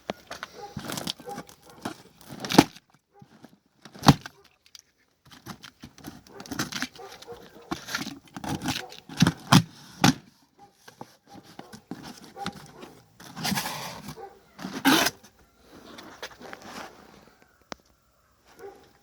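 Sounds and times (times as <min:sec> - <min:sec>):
cardboard rustling and scraping: 0:00.0 - 0:17.4.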